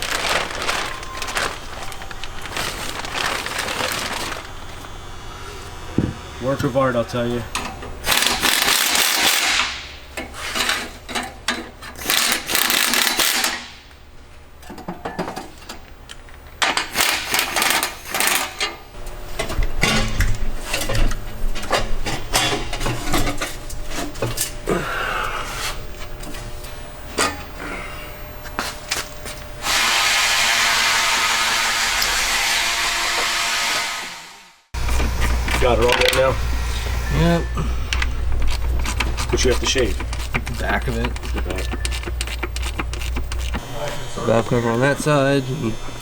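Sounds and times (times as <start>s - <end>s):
steady rushing air tool noise: 0.0s - 14.0s, 21.5s - 46.0s.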